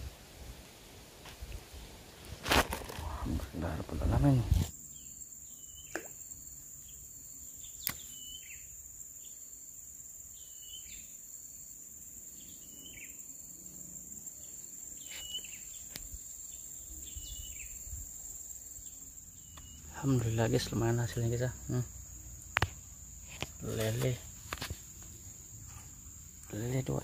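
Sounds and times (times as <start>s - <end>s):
high-pitched insect drone: 3.6s - 27.0s.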